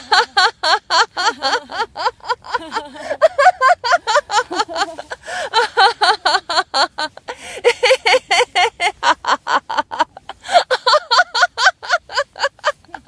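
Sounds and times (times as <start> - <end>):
people laughing rhythmically: 0.0 - 13.0.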